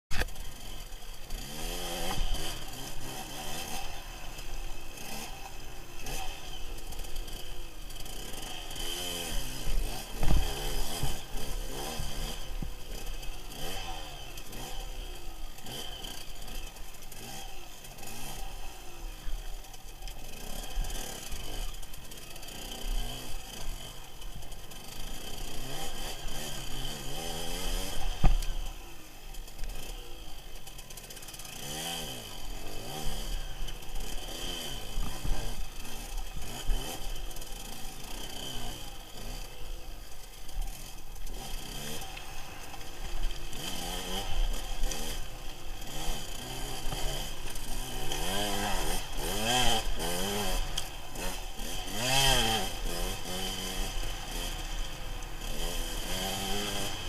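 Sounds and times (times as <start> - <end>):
motorcycle engine revving: 0.1 - 57.0.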